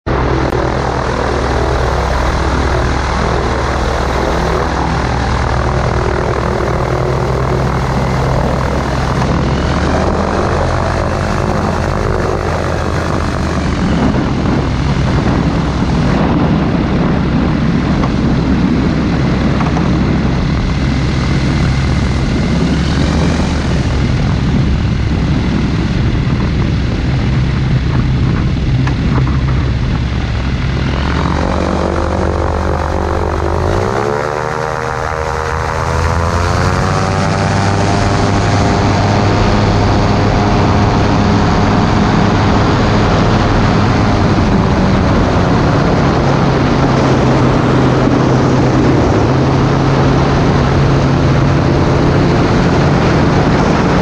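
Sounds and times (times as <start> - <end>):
microlight engine and propeller: 0.0 - 54.0
rushing haze: 0.1 - 54.0.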